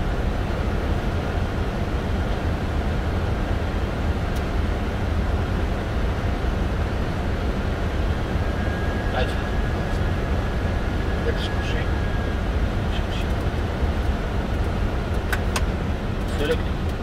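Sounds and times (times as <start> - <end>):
aircraft cockpit low rumble: 0.0 - 17.0.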